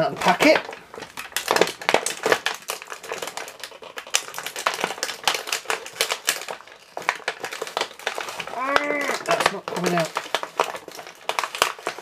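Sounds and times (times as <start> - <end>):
plastic packaging crinkling and clicking: 0.0 - 12.0.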